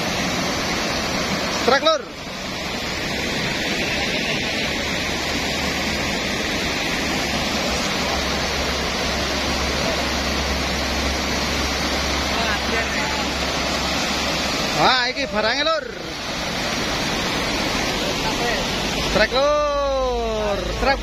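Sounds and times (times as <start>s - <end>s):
floodwater rushing through sluice gates: 0.0s - 21.0s.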